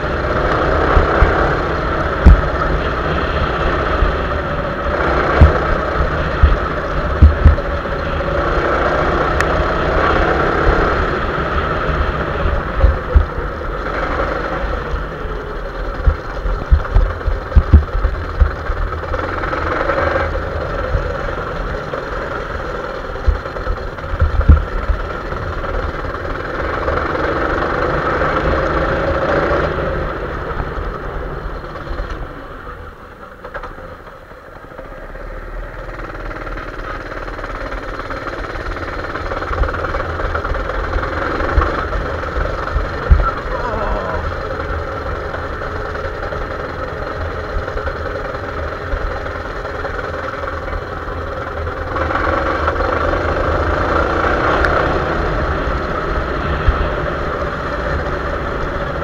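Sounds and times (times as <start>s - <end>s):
wheels thumping over bumps: 0.0s - 32.4s, 36.1s - 59.0s.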